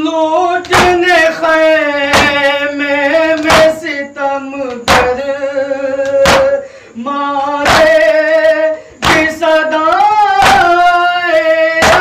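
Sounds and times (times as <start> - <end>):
person singing long slow notes: 0.0 - 12.0
hands beating chests in unison: 0.6 - 4.0, 4.6 - 6.7, 7.5 - 12.0.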